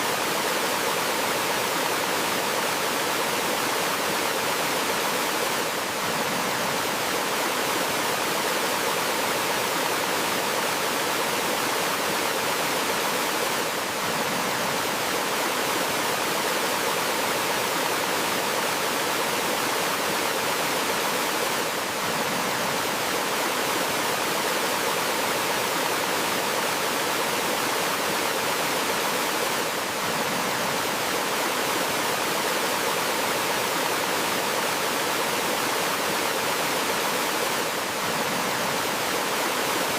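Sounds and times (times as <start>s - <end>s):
gently flowing stream: 0.0s - 39.9s.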